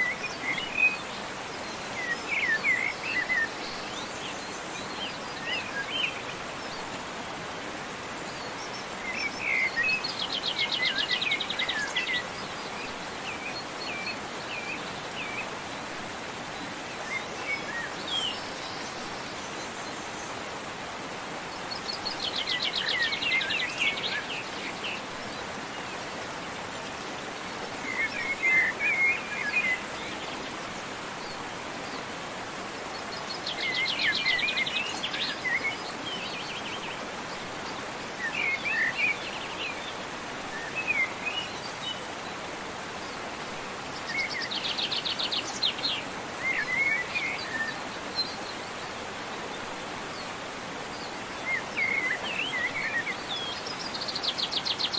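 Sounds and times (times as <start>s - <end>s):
birds singing: 0.0s - 7.0s, 8.2s - 20.6s, 21.5s - 54.9s
waterfall rushing: 0.0s - 54.9s.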